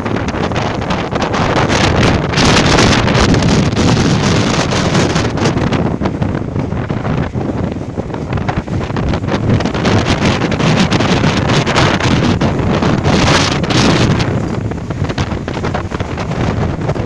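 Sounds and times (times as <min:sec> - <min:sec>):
boat engine and water rush: 0:00.0 - 0:17.0
wind buffeting microphone: 0:00.0 - 0:17.0.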